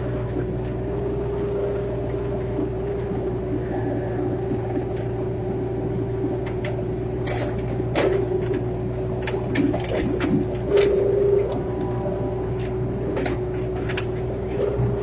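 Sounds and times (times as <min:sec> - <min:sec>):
excavator engine humming: 0:00.0 - 0:15.0.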